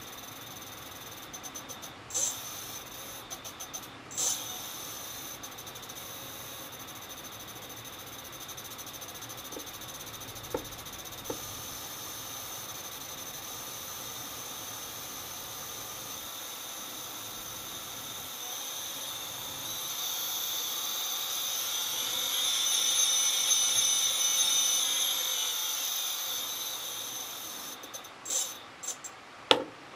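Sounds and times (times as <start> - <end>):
electric motor high-pitched whine: 0.0 - 29.1.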